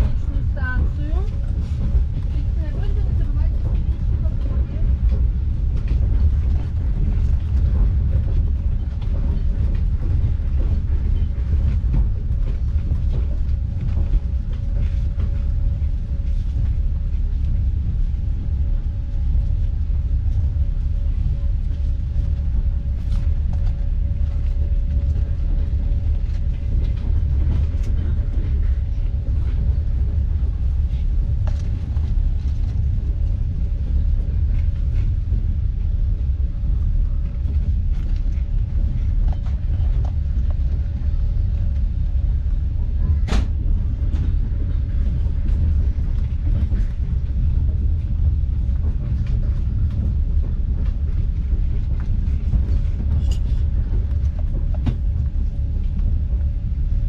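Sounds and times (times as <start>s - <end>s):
train rumble from inside carriage: 0.0s - 57.0s.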